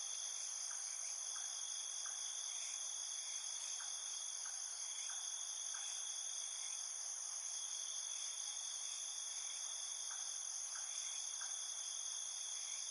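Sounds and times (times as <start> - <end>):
crickets chorus: 0.0 - 12.9.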